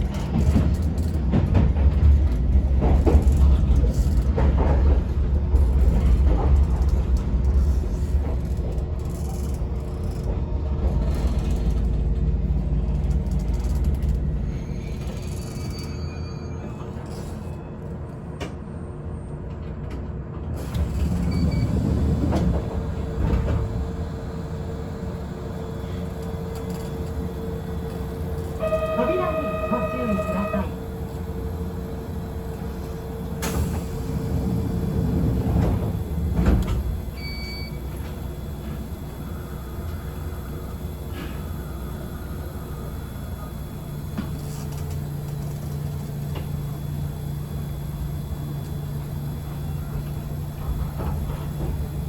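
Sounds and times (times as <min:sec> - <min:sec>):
steady train hum: 0:00.0 - 0:52.0
train rumble inside car: 0:00.0 - 0:52.0.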